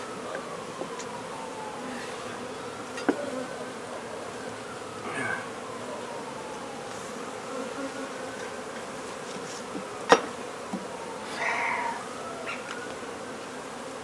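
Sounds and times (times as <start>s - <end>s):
bees buzzing: 0.0s - 14.0s
bees droning past: 0.0s - 14.0s.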